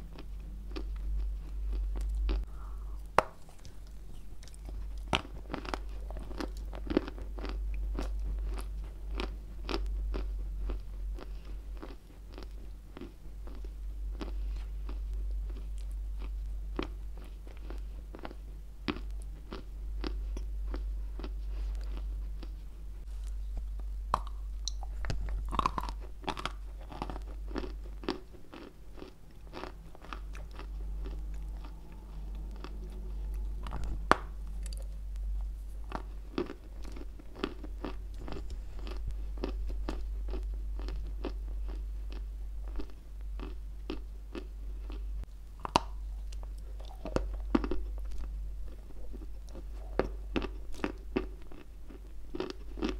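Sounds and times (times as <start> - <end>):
crunching and chewing clay: 0.0 - 52.9.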